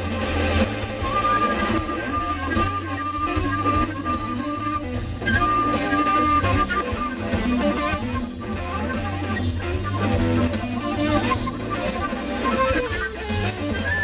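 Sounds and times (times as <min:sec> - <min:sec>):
bass: 0:00.0 - 0:14.0
drums: 0:00.0 - 0:14.0
guitar: 0:00.0 - 0:14.0.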